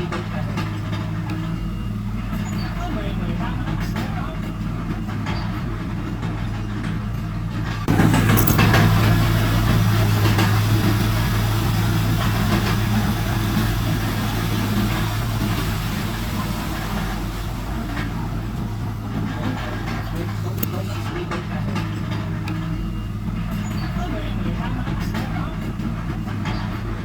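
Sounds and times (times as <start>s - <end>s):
diesel engine running: 0.0s - 27.0s
loud rough engine noise: 0.0s - 27.0s.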